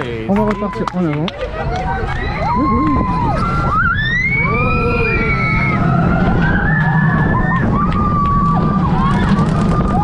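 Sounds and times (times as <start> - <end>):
roller coaster train rumbling: 0.0 - 10.0
riders screaming and whooping: 1.4 - 10.0.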